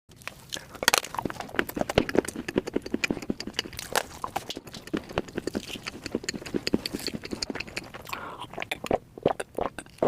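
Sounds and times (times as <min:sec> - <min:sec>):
wet chewing: 0:00.1 - 0:10.0
mouth clicks and smacks: 0:00.2 - 0:10.0.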